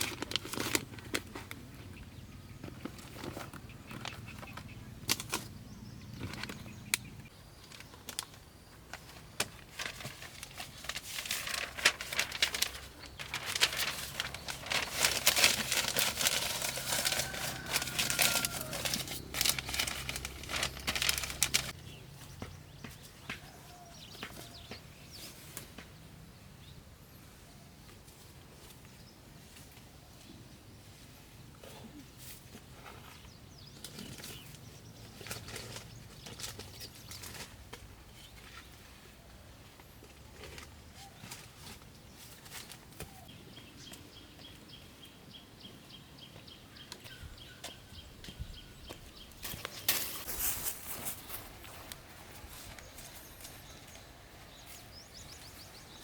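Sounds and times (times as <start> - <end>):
rustling and crinkling handling: 0.0 - 2.0, 2.6 - 25.9, 31.6 - 44.5, 46.9 - 56.0.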